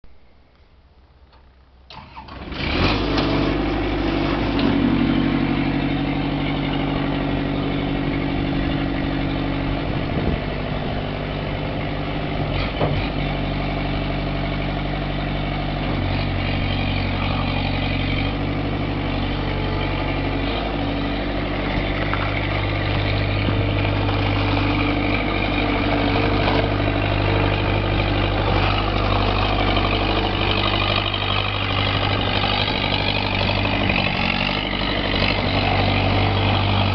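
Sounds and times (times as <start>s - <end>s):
diesel engine running: 1.0s - 36.9s
diesel engine starting: 1.3s - 36.9s.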